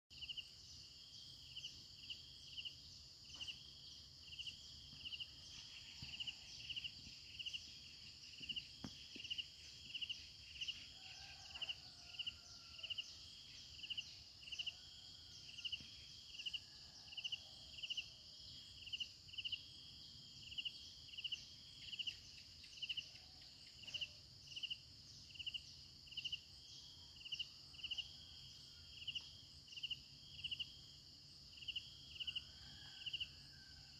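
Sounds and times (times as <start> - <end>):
cricket chirps: 0.1 - 33.9.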